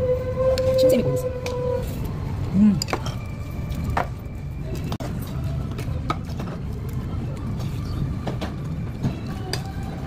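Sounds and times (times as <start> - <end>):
restaurant room rumble: 0.0 - 10.0.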